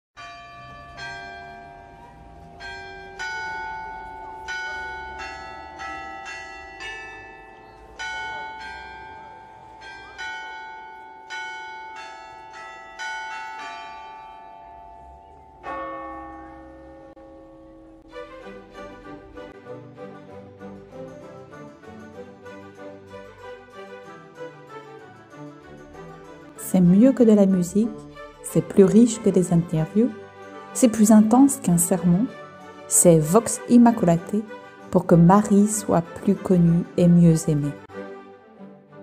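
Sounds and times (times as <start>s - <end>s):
church bells ringing: 0.2s - 19.6s, 20.6s - 37.9s.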